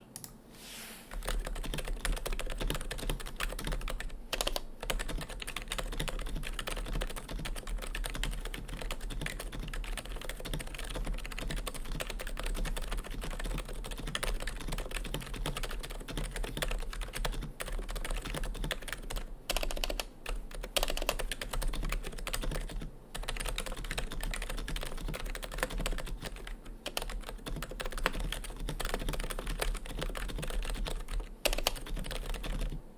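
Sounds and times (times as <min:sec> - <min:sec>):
fast typing on keyboard: 0:01.1 - 0:32.9.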